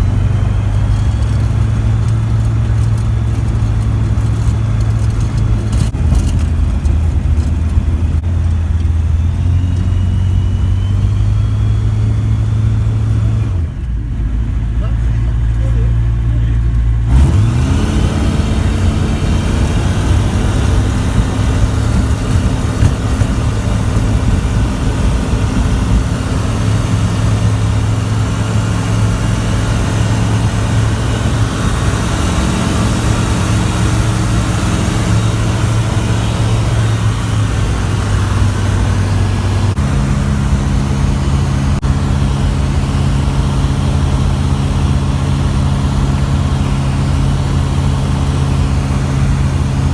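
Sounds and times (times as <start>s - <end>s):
light aircraft engine and propeller: 0.0s - 49.9s.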